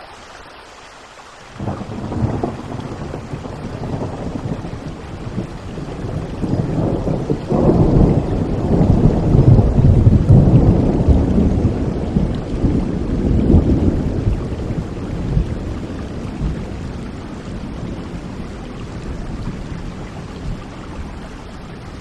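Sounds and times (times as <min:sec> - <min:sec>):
steady rain: 0:00.0 - 0:22.0
thunder rumbling: 0:01.6 - 0:22.0.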